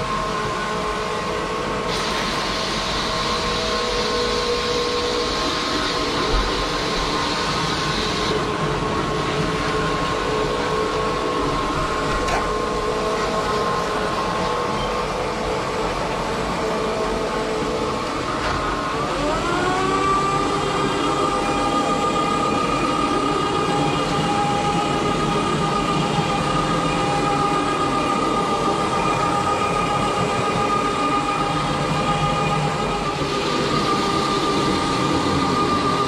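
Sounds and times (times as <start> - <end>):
carpet cleaner whining drone: 0.0 - 36.0.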